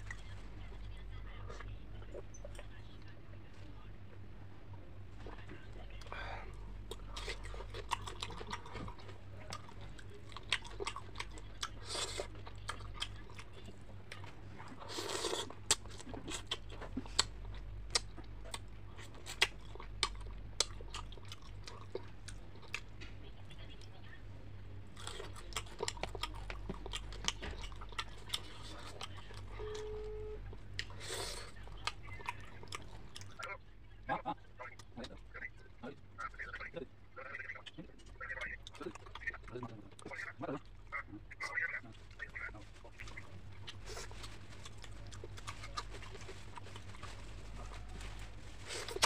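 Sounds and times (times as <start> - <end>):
chewing and crunching: 0.0 - 49.0
low steady hum: 0.0 - 49.0.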